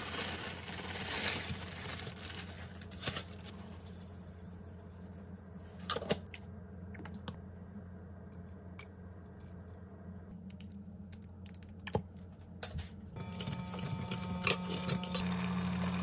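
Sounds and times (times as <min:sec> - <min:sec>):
steady low hum: 0:00.4 - 0:16.0.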